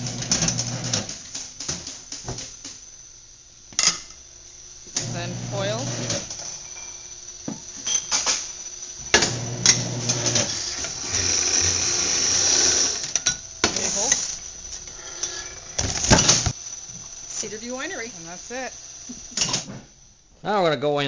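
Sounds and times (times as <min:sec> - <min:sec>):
motorised capsule spinner whirring: 0:00.0 - 0:03.4, 0:04.4 - 0:20.2.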